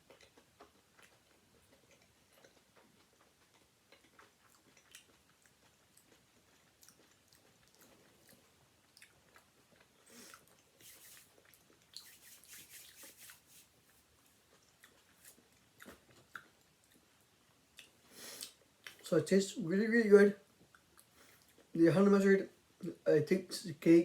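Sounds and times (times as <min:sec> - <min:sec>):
chewing a sandwich: 0:00.0 - 0:19.1, 0:20.4 - 0:21.8.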